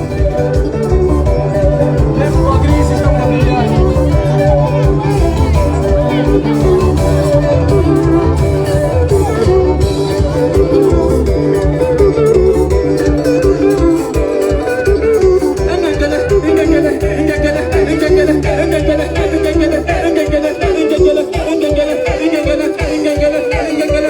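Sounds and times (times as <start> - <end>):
bass notes: 0.0 - 20.8
drum beat: 0.0 - 24.0
guitar melody: 0.0 - 24.0.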